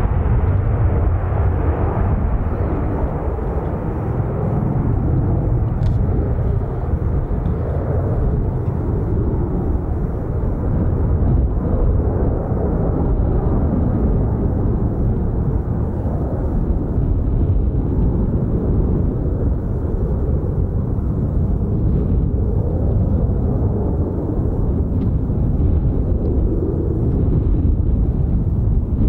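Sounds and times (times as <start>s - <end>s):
aircraft engine rumble: 0.0s - 29.0s.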